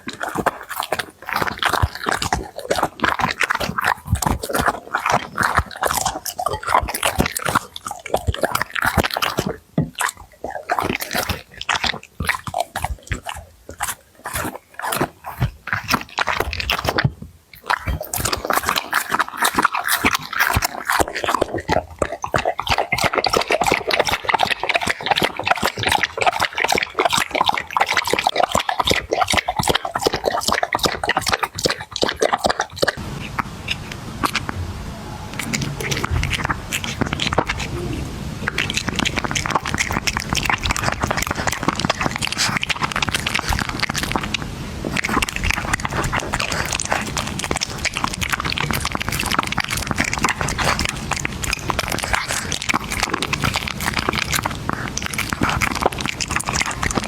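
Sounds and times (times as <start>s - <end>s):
pets crunching food: 0.0s - 57.0s.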